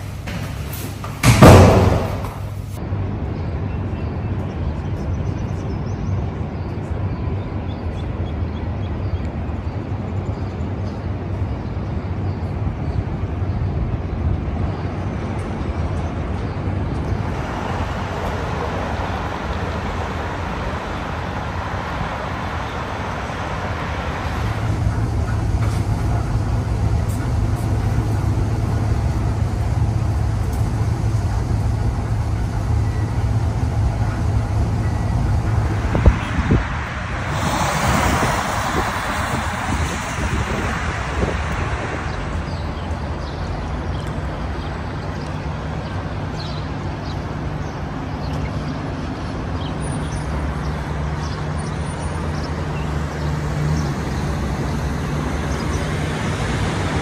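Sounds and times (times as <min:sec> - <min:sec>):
city road traffic noise: 0:00.0 - 0:57.0.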